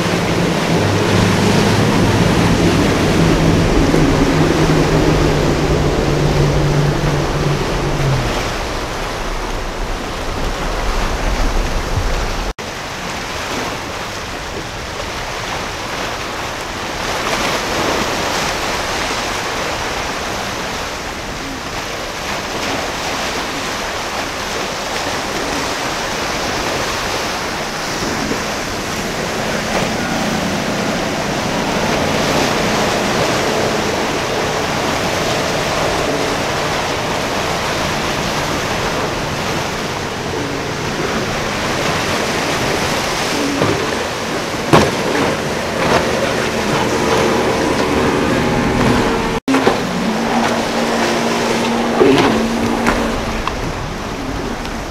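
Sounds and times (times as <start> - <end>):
boat engines humming: 0.0 - 54.9
waves and rushing surf: 0.0 - 54.9
wind buffeting microphone: 0.0 - 54.9.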